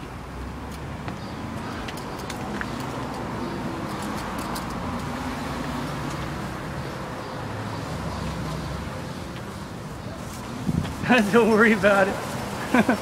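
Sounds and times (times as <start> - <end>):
street traffic passing cars: 0.0 - 13.0.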